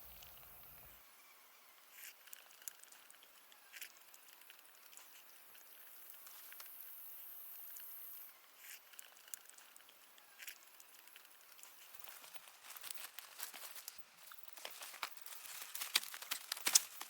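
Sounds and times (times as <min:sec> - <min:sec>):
faint patter and ticks: 0:01.6 - 0:17.0.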